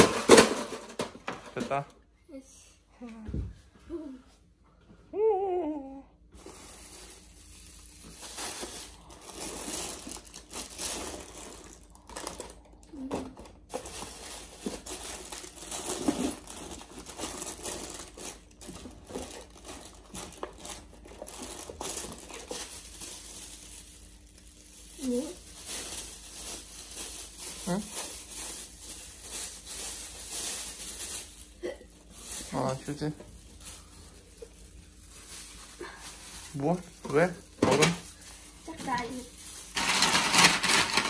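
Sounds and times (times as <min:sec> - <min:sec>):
crinkling and rustling: 0:06.4 - 0:41.0.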